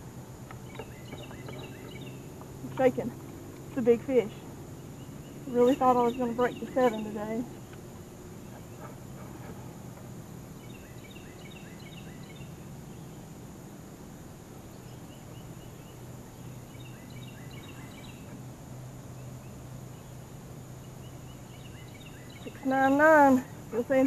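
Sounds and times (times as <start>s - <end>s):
high insect drone: 0.0s - 24.0s
steady low hum: 0.0s - 24.0s.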